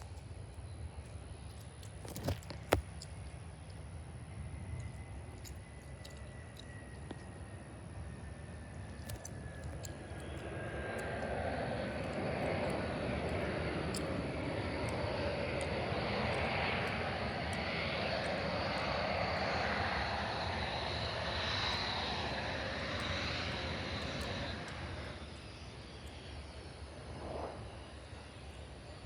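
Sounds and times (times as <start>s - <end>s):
jet engines passing: 0.0s - 29.0s.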